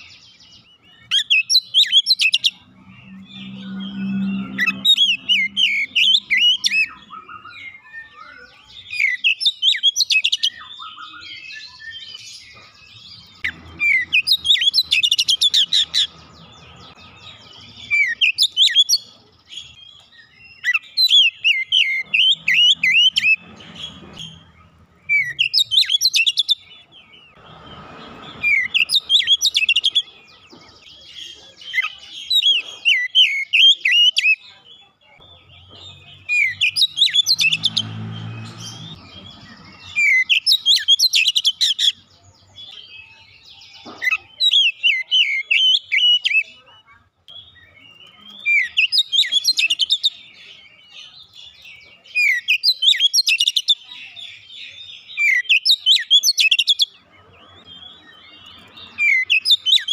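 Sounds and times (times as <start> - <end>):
bird singing whistled notes: 0.0 - 30.3, 35.8 - 46.6, 47.3 - 59.9.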